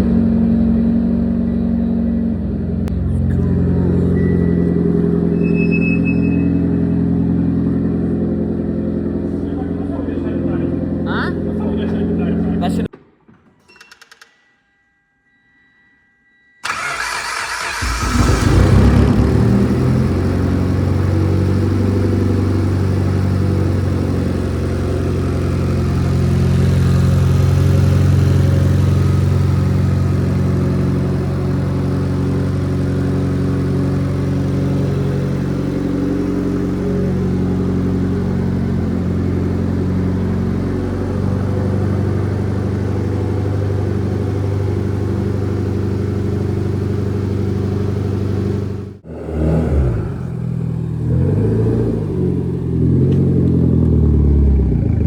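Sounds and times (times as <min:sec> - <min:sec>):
car engine starting and idling: 0:00.0 - 0:12.9, 0:16.6 - 0:55.0.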